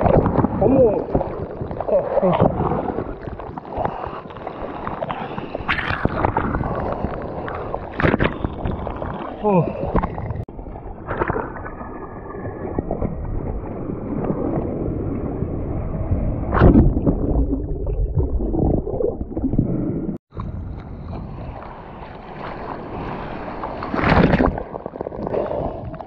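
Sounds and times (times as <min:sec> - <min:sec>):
sea water rushing and splashing: 0:00.0 - 0:26.0.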